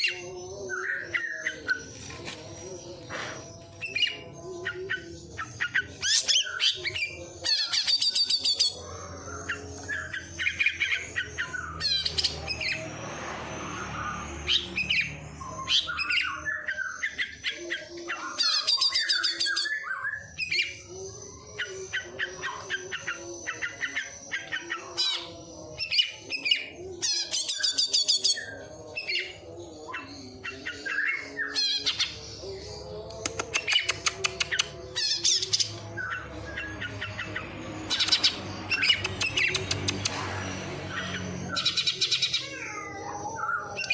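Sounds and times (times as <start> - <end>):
songbird singing chirps and trills: 0.0 - 43.9.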